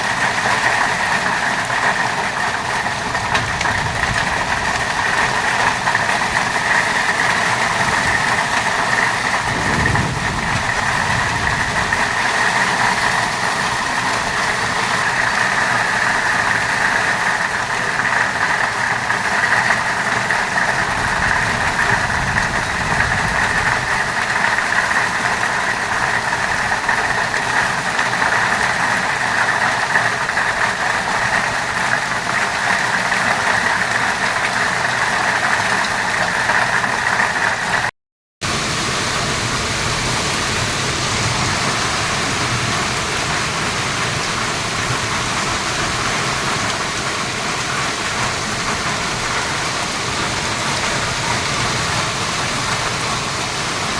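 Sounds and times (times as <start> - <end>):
heavy rain and hail: 0.0 - 53.9.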